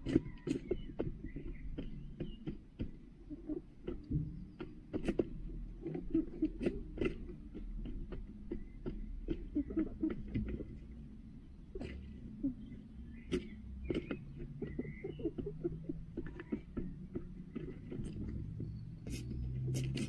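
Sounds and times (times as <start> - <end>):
beaks tapping plastic feeder: 0.0 - 20.0
hens clucking softly: 0.0 - 20.0.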